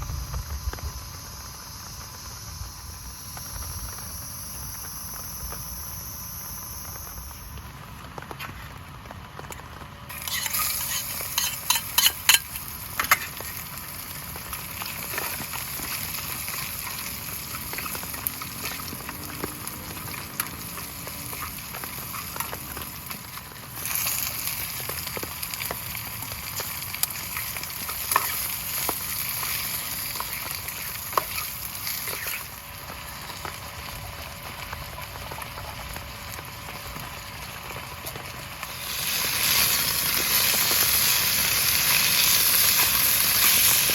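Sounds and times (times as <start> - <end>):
food sizzling in a pan: 0.0 - 7.7, 10.1 - 35.2, 36.2 - 43.9.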